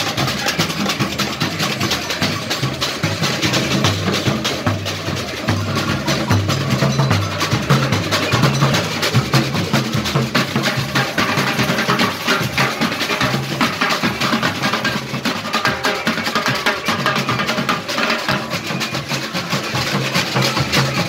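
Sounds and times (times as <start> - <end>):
samba drum band playing: 0.0 - 21.0.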